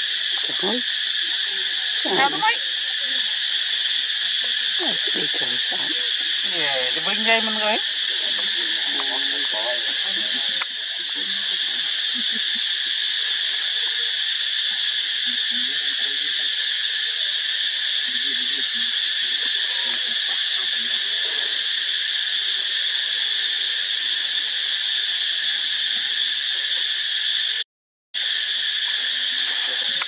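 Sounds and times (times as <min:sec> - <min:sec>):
insects droning: 0:00.0 - 0:27.6, 0:28.2 - 0:30.0.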